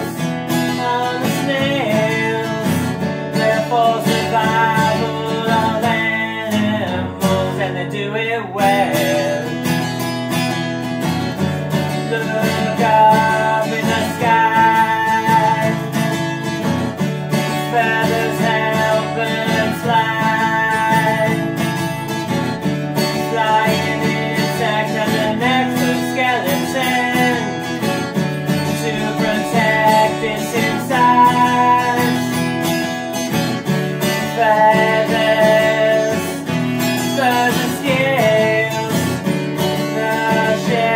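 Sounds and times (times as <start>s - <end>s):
man singing: 0.0s - 10.0s, 11.0s - 40.9s
acoustic guitar strumming: 0.0s - 40.9s.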